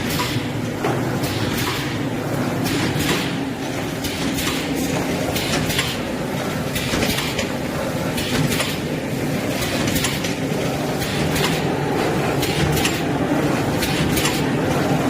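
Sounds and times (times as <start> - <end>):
machine humming with clicks: 0.0 - 15.0.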